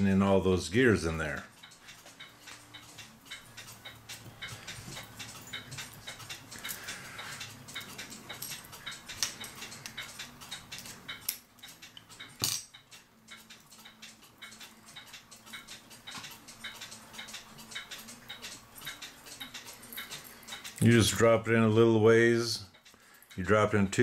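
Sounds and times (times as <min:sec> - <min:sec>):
chain links clicking on wheel: 0:01.2 - 0:21.0.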